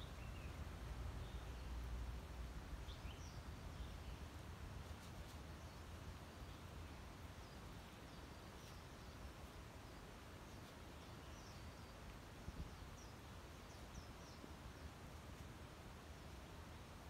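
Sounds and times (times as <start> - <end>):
faint low outdoor rumble: 0.0 - 17.0
small birds chirping: 0.0 - 17.0.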